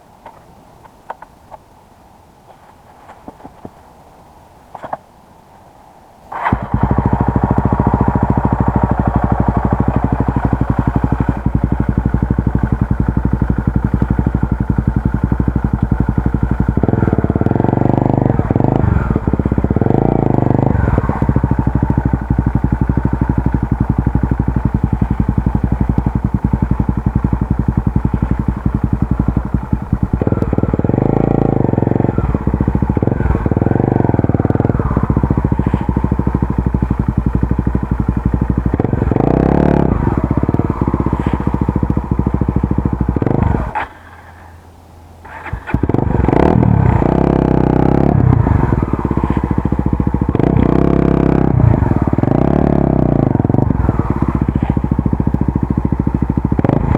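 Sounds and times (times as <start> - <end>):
motorcycle engine running: 6.3 - 56.9.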